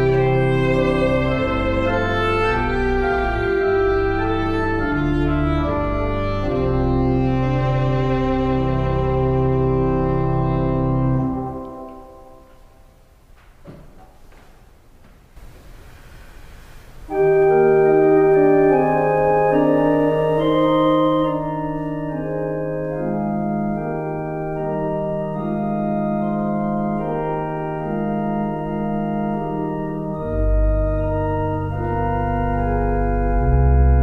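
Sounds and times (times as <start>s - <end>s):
deep organ pedal bass notes: 0.0s - 12.4s, 17.1s - 34.0s
church organ chords: 0.0s - 13.2s, 17.1s - 34.0s.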